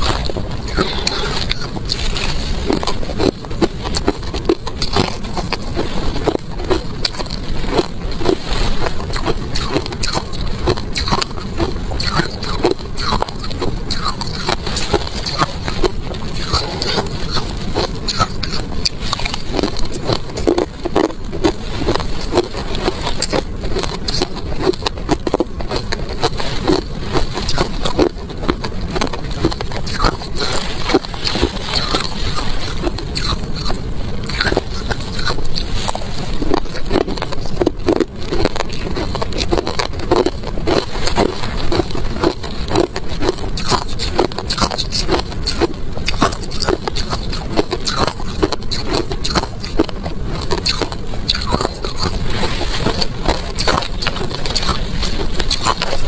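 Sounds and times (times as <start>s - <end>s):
crunching ice being chewed: 0.0s - 56.0s.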